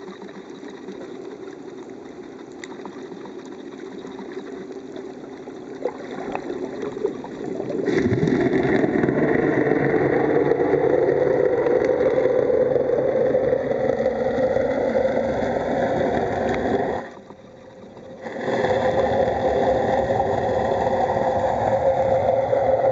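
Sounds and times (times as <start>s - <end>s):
boat engine drone underwater: 0.0s - 22.9s.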